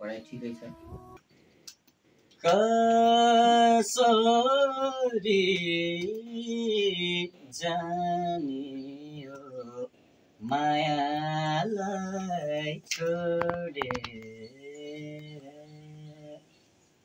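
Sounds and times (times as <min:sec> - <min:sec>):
man singing unaccompanied: 0:00.0 - 0:01.2, 0:02.4 - 0:16.6.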